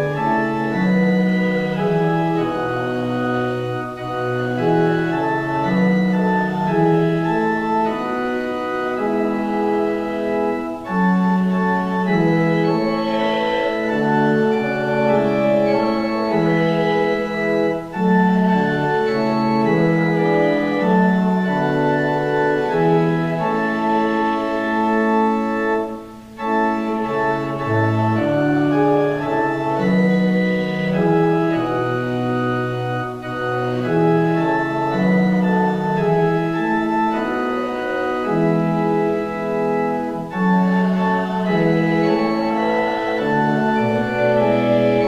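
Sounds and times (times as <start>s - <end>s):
organ playing hymn: 0.0s - 45.0s.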